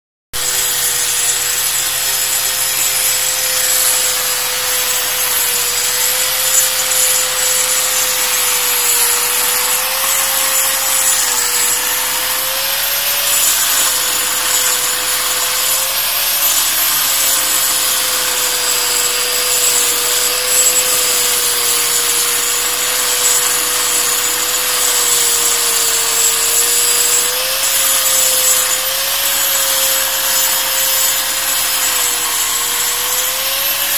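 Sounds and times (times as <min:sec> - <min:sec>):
angle grinder grinding stone: 0:00.4 - 0:33.9.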